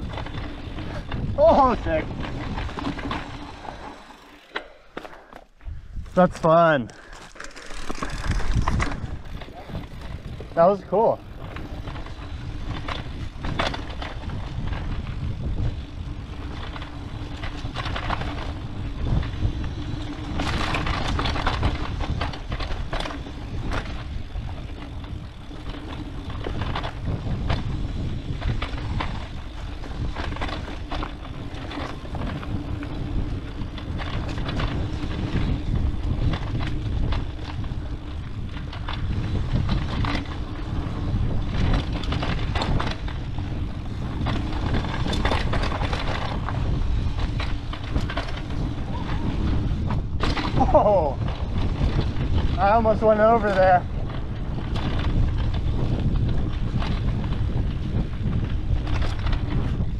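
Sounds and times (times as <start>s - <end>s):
bike rattling over bumps: 0.0s - 59.9s
bike tyres rumbling over dirt: 0.0s - 59.9s.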